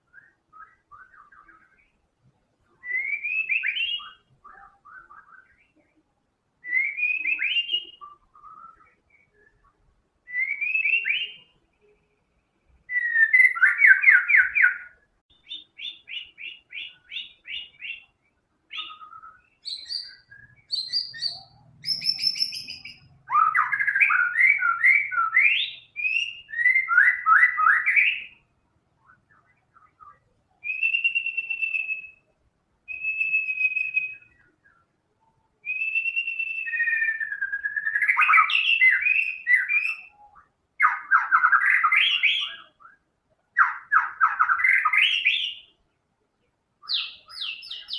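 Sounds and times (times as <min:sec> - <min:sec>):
bird singing varied song: 0:00.0 - 0:47.9.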